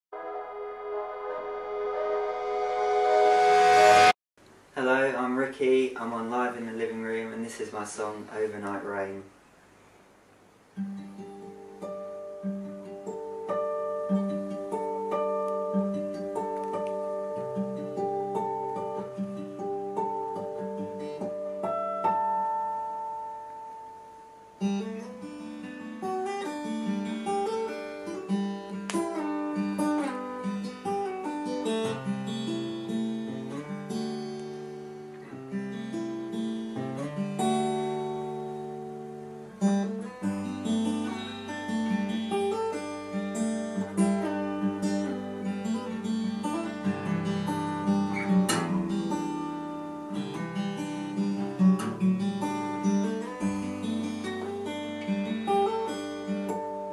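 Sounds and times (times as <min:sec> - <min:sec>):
acoustic guitar picking: 0:10.8 - 0:56.9.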